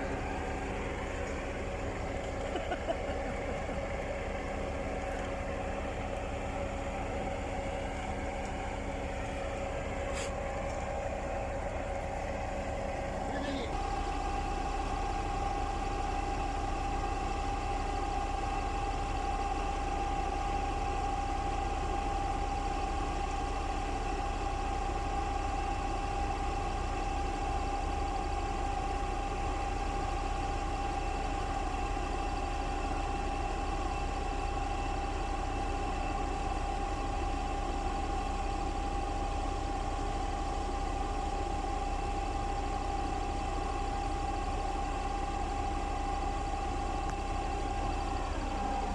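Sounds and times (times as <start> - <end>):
constant whine: 0.0 - 48.9
pump truck engine drone: 0.0 - 48.9.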